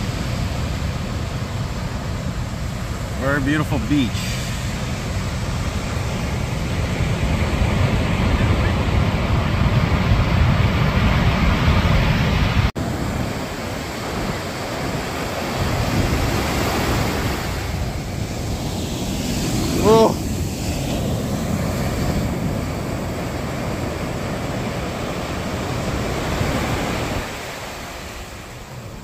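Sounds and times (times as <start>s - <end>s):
ocean surf breaking: 0.0s - 29.0s
wind buffeting microphone: 4.0s - 29.0s.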